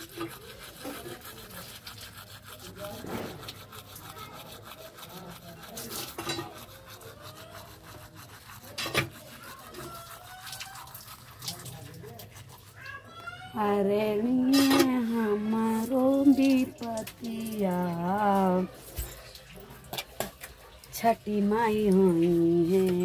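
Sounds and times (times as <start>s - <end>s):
toothbrush scrubbing teeth: 0.0s - 23.0s.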